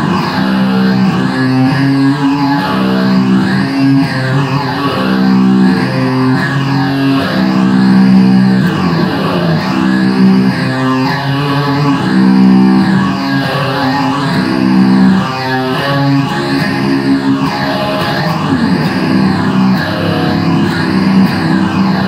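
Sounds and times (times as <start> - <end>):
heavy metal electric guitar chords: 0.0 - 22.0.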